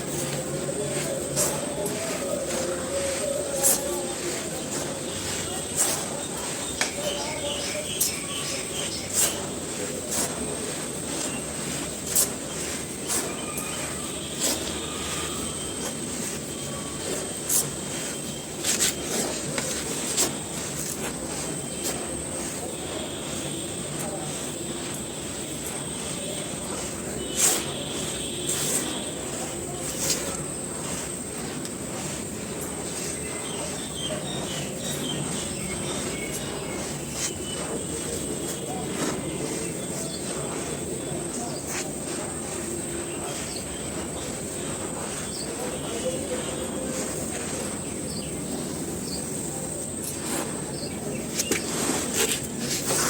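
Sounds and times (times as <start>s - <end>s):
dry cones crumbling: 0.0s - 53.0s
sharp crunches: 0.0s - 53.0s
steady hiss: 0.0s - 53.0s.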